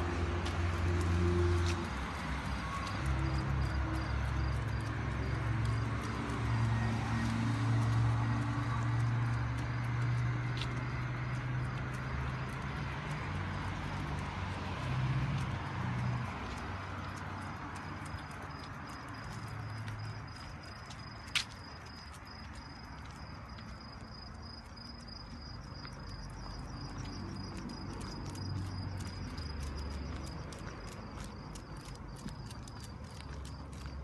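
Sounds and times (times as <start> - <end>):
crickets trilling: 0.0 - 14.2, 14.8 - 34.0.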